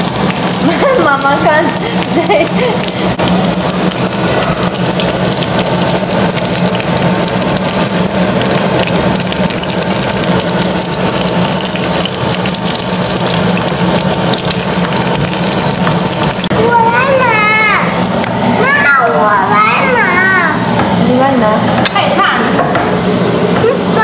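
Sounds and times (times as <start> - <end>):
buns sizzling in hot oil: 0.0 - 22.0.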